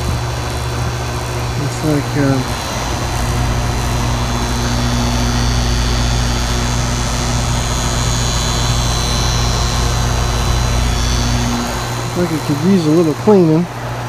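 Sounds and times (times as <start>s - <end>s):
air conditioner hum: 0.0s - 14.0s
fan rushing: 0.0s - 14.0s.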